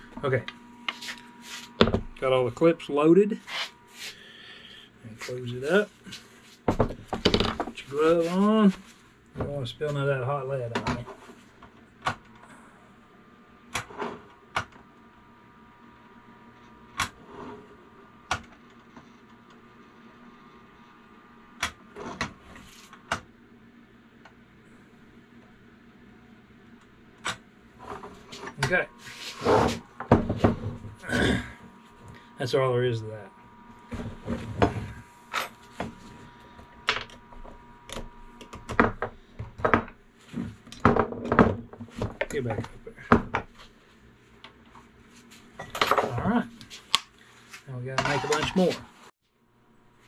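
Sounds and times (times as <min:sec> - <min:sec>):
faint hum: 0:00.0 - 0:50.0.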